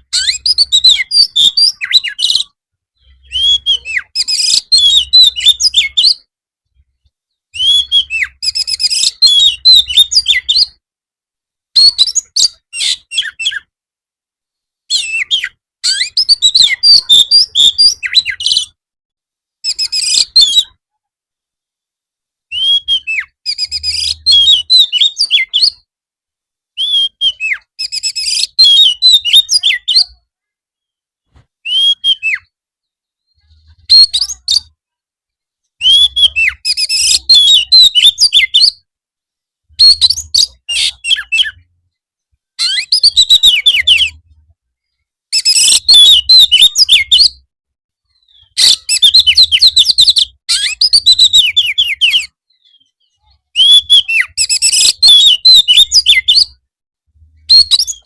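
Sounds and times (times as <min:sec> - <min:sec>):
songbird singing rapid phrases: 0:00.0 - 0:10.8, 0:11.7 - 0:13.8, 0:14.5 - 0:18.8, 0:19.6 - 0:20.9, 0:22.5 - 0:25.9, 0:26.7 - 0:38.9, 0:39.7 - 0:58.0.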